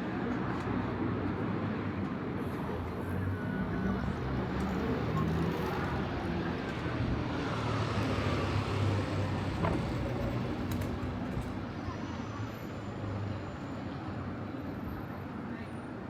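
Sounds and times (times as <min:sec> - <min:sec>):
road traffic noise: 0:00.1 - 0:16.0.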